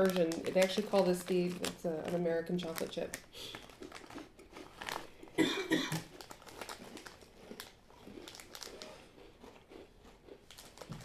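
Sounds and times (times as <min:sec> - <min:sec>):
plastic wrapper crinkling: 0:00.0 - 0:05.4, 0:06.0 - 0:09.1, 0:10.4 - 0:11.0.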